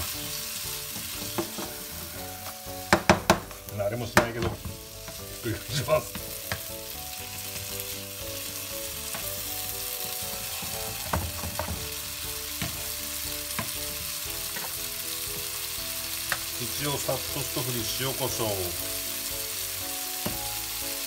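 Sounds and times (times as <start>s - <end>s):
tomatoes sizzling in oil: 0.0s - 21.0s.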